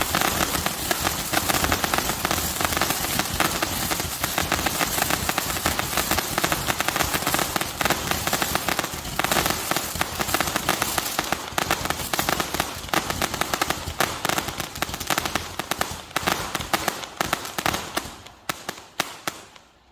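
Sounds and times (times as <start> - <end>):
fireworks barrage firing: 0.0 - 19.6
crackling fireworks: 0.0 - 19.9.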